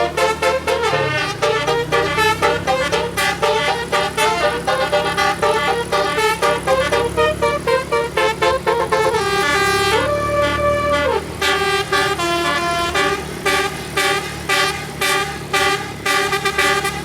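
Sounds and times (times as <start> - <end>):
bus horn playing a melody: 0.0 - 17.0
low vehicle rumble: 0.0 - 17.0.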